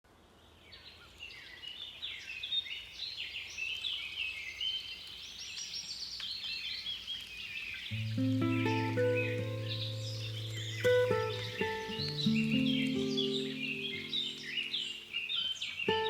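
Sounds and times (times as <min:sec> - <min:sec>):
birds chirping and trilling: 0:00.4 - 0:16.0.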